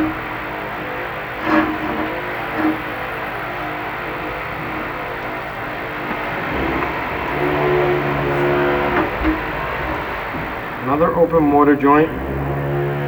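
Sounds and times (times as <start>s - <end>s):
construction noise: 0.0s - 13.0s
motor tone: 0.0s - 13.0s.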